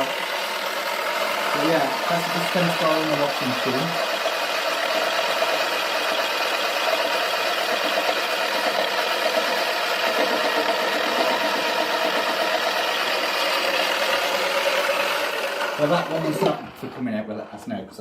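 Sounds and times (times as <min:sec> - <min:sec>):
toy washing machine motor drone: 0:00.0 - 0:18.0.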